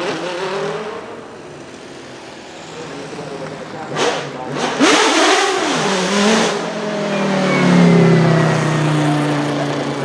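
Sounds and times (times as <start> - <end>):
race car engine at low revs: 0.0 - 10.0.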